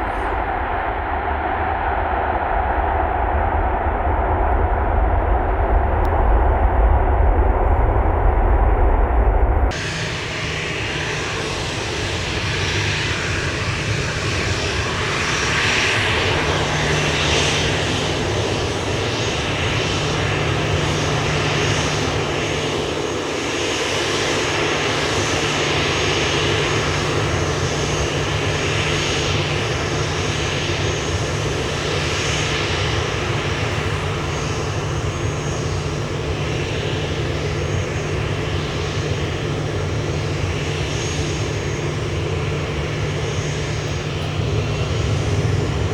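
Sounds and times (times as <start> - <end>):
jet airliner engines running: 0.0 - 45.9.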